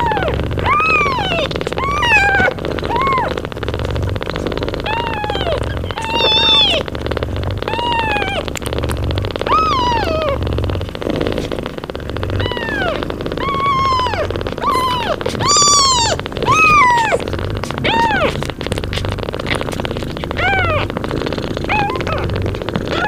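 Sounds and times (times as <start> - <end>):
cat purring: 0.0 - 23.0
kittens mewing: 0.0 - 23.0.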